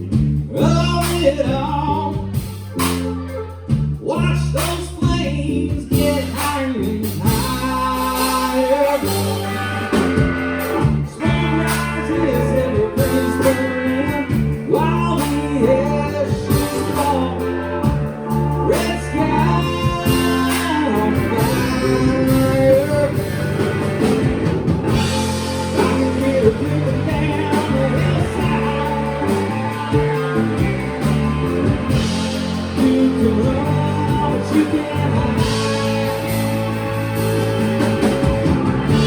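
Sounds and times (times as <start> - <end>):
live rock band playing: 0.0 - 39.0
person singing: 0.0 - 39.0.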